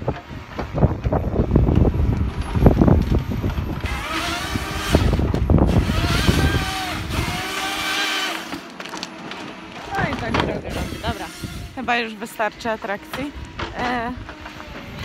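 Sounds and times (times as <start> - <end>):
wind rumble on microphone: 0.0 - 7.6, 9.8 - 15.0
diesel engine and hydraulics: 0.0 - 15.0
steady whine: 0.0 - 15.0.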